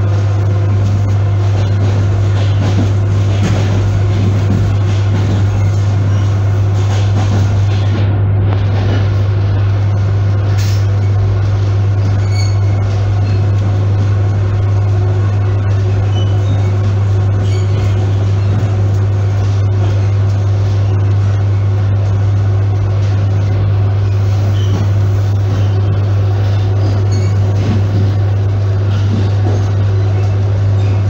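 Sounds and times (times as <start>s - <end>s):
train deep hum: 0.0s - 31.0s.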